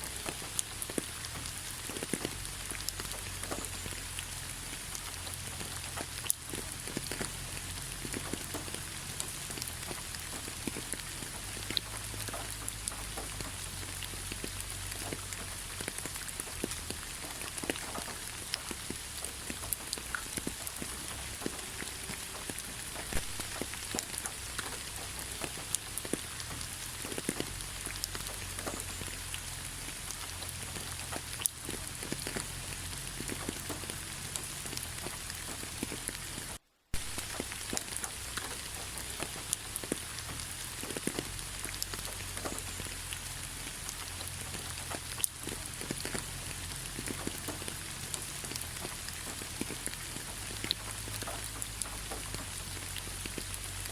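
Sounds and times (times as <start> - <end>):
rain hissing: 0.0 - 53.9
raindrops ticking close by: 0.0 - 53.9.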